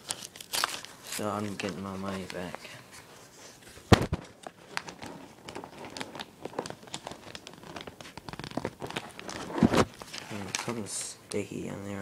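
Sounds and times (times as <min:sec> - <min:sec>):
plastic packaging crinkling: 0:00.0 - 0:02.7, 0:03.7 - 0:11.0.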